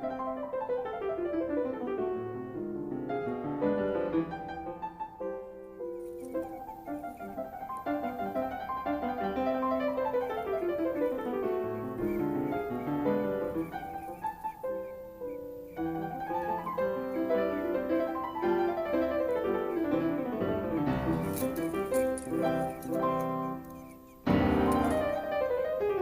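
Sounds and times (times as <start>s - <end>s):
classical piano music: 0.0s - 26.0s.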